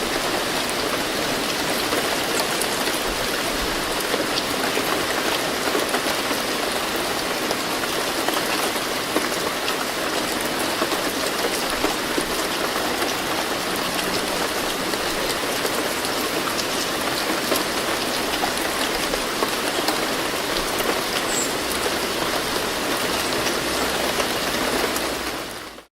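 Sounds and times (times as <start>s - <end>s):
rain hissing: 0.0s - 25.8s.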